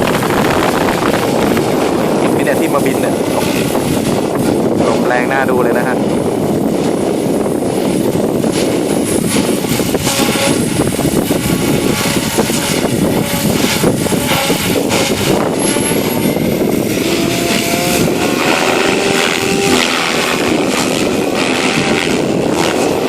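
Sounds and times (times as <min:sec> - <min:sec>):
helicopter motor and rotor whine: 0:00.0 - 0:23.0
wind buffeting microphone: 0:00.0 - 0:23.0.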